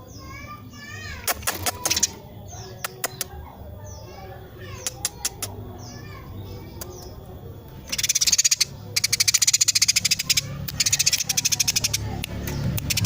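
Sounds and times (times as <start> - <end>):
sparrow chirping and chattering: 0.0 - 13.0.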